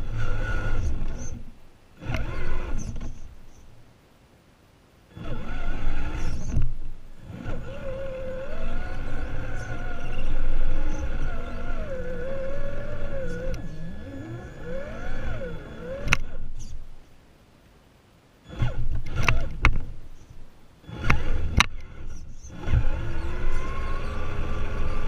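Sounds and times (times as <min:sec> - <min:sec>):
rc truck electric motor whining: 0:00.0 - 0:03.6, 0:05.1 - 0:16.9, 0:18.4 - 0:25.0.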